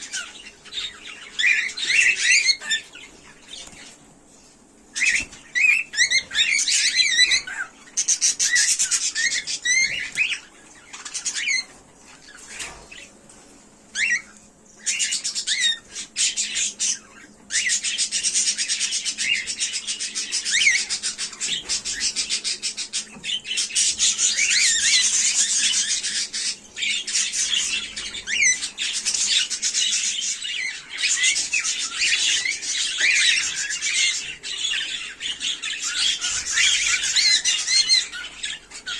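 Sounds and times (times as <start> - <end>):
cockatiel chirping and squawking: 0.1 - 3.9, 5.0 - 12.8, 13.9 - 38.9.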